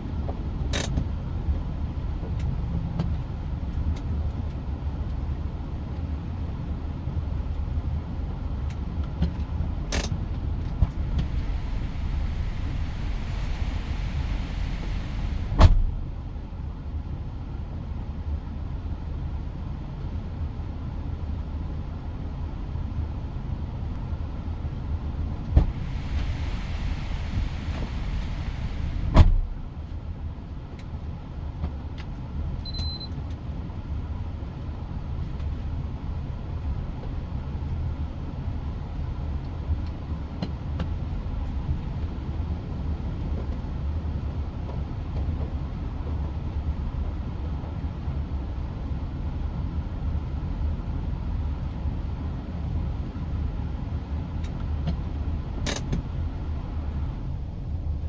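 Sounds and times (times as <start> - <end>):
engine and road noise rumble: 0.0 - 58.0.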